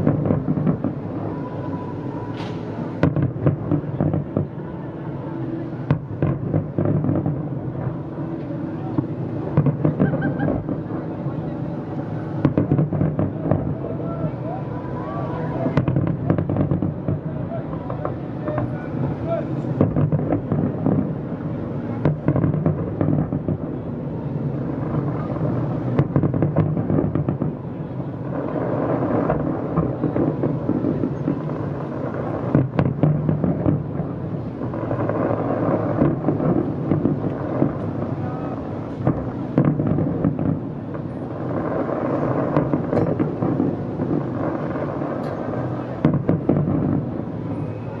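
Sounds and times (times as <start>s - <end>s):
distant fireworks booming: 0.0s - 48.0s
sharp fireworks bangs: 0.0s - 48.0s.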